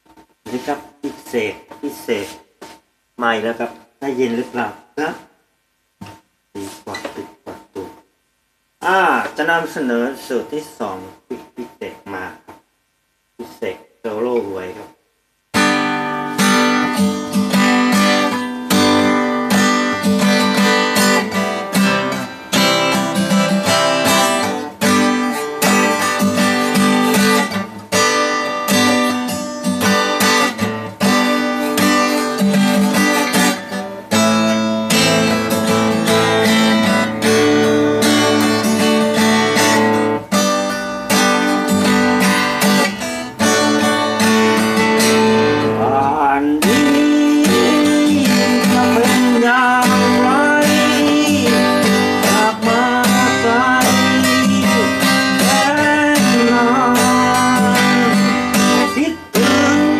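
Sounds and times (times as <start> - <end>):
acoustic guitar strumming: 0.0 - 5.3, 6.0 - 8.1, 14.4 - 59.9.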